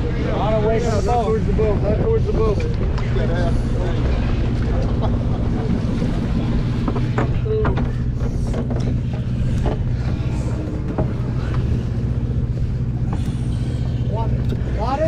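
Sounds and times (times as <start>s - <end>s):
diesel boat engine humming: 0.0s - 15.0s
sea noise: 0.0s - 15.0s
wind: 0.0s - 15.0s.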